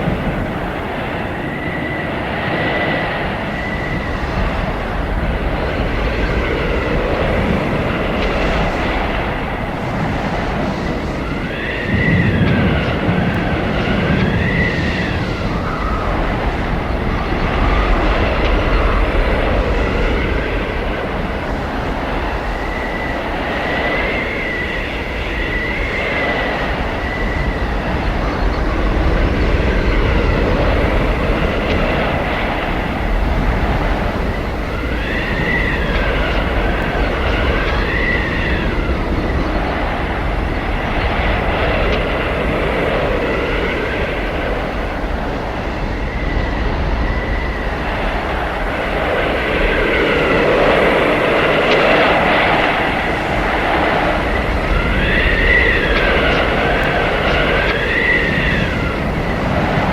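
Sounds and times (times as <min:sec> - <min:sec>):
howling blizzard wind: 0:00.0 - 0:59.9.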